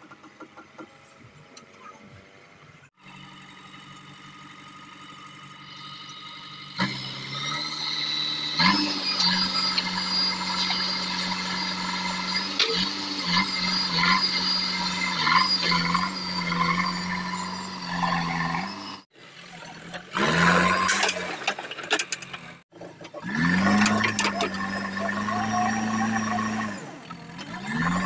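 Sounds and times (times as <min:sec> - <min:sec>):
diesel engine revving: 0:03.0 - 0:28.0.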